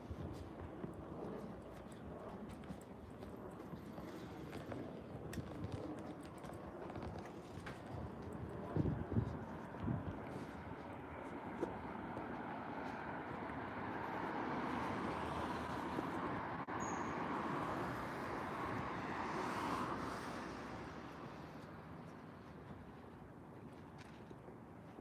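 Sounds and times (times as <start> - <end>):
airplane passing overhead: 0.0 - 25.0.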